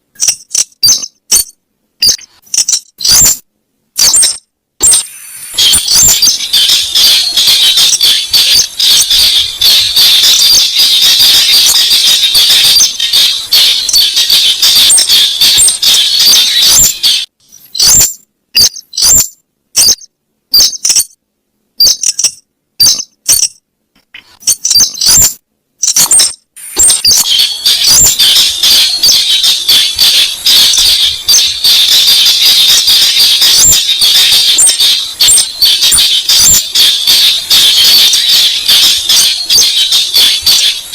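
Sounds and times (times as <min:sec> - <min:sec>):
shrill chattering bird call: 0:04.0 - 0:21.1, 0:24.2 - 0:40.8.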